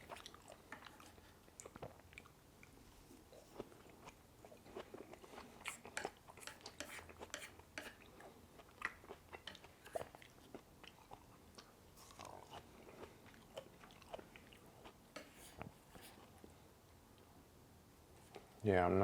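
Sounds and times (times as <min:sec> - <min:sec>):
chewing noodles: 0:00.0 - 0:16.6.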